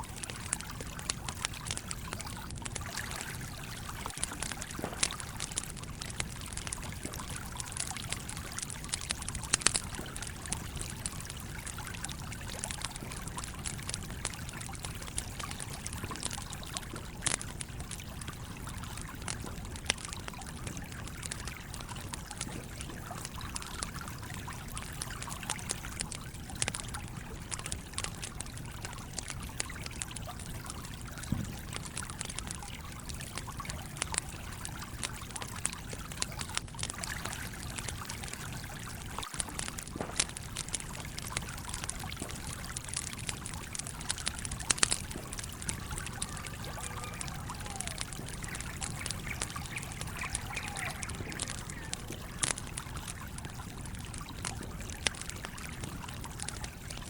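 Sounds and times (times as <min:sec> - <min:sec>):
campfire crackling and popping: 0:00.0 - 0:57.0
small stream flowing: 0:00.0 - 0:57.0.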